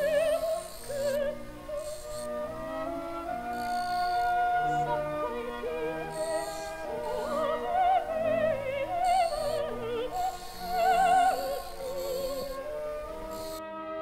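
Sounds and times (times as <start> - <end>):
operatic singing: 0.0 - 13.6
sustained instrumental accompaniment: 0.0 - 14.0.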